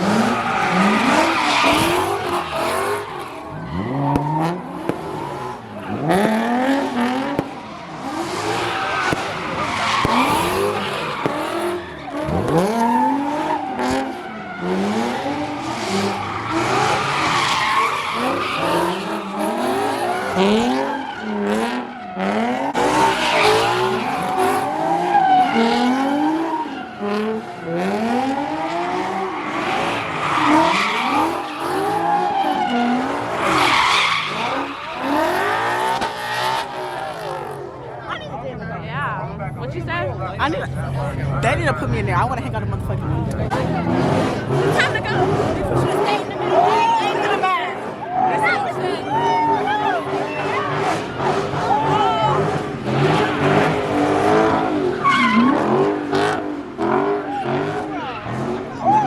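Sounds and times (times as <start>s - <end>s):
car engines revving: 0.0s - 59.0s
tires screeching: 0.0s - 59.0s.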